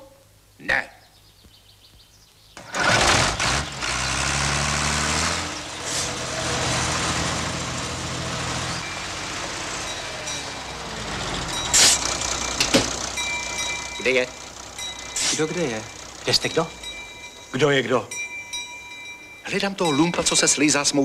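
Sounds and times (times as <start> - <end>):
tractor diesel engine running: 2.6 - 21.0.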